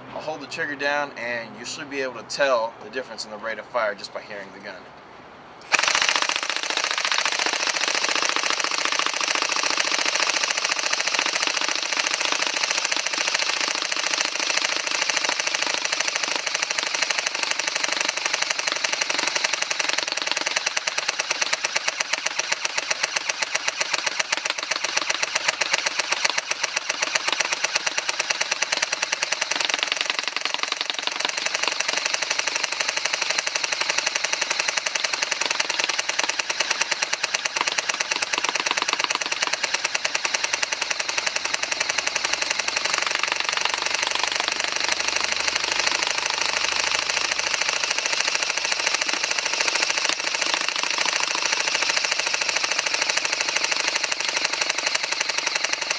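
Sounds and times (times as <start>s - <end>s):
airsoft gun full-auto firing: 5.6s - 55.9s.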